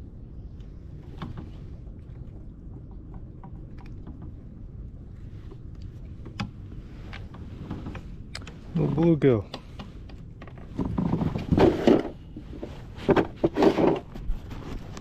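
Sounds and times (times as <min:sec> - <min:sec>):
low rumble of wind and water: 0:00.0 - 0:15.0.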